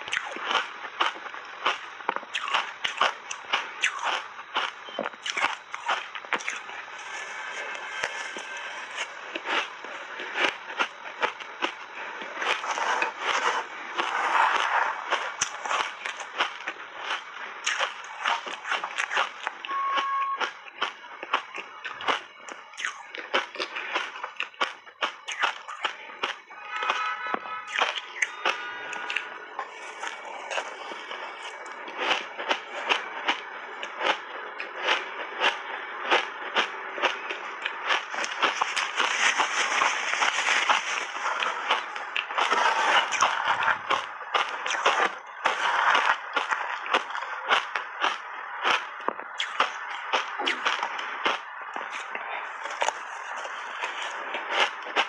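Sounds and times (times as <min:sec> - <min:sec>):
crunching and chewing ice: 0:00.0 - 0:55.0.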